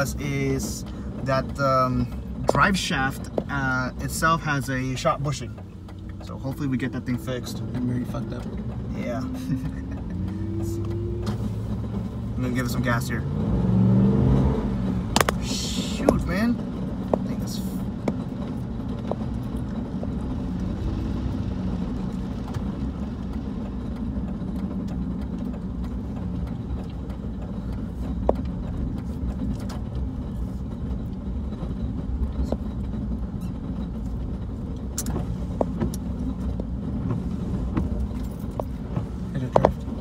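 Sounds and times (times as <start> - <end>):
engine and road rumble: 0.0 - 40.0.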